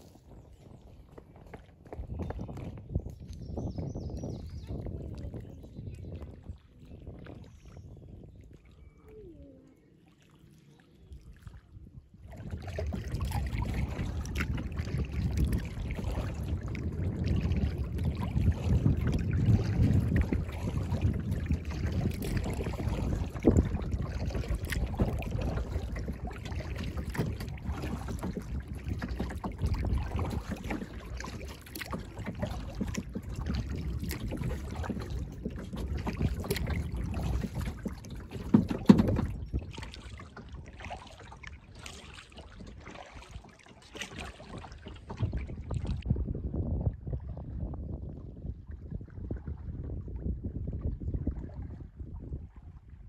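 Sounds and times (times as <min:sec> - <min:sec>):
paddle splashes: 0:00.0 - 0:53.0
water against hull: 0:00.0 - 0:53.0
wind rumble on microphone: 0:00.0 - 0:53.0.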